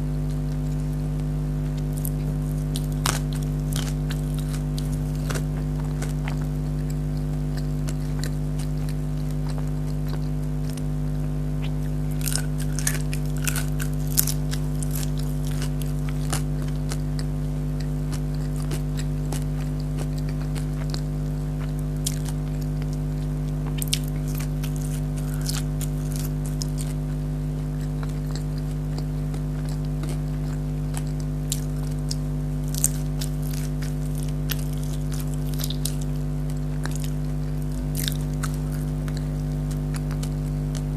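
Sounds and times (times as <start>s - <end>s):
crunching fried food: 0.0s - 40.9s
low hum: 0.0s - 40.9s.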